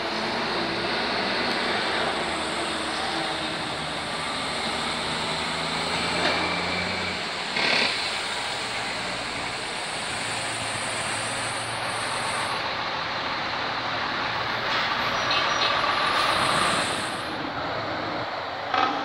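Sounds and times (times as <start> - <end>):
brake squeal: 0.0 - 18.2
truck rumbling over bridge: 0.0 - 19.0.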